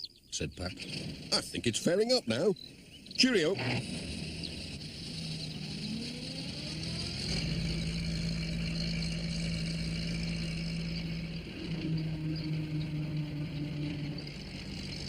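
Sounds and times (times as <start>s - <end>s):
van engine: 0.0s - 15.0s.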